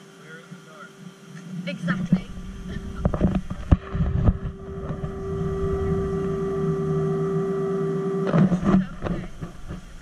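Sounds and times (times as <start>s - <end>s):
mechanical hum with held tone: 0.0s - 10.0s.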